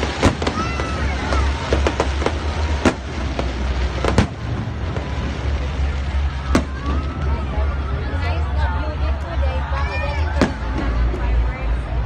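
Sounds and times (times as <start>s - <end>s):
fireworks bursting: 0.0s - 12.0s
steady low rumble: 0.0s - 12.0s.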